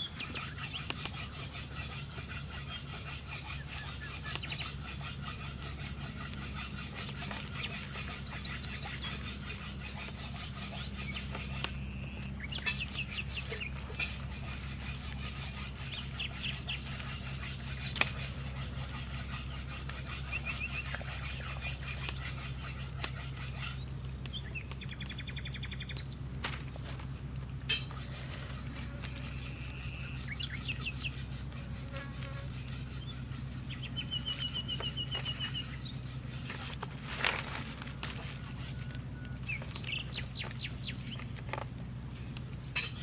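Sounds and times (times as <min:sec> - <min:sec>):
birds chirping: 0:00.0 - 0:43.0
steady low hum: 0:00.0 - 0:43.0.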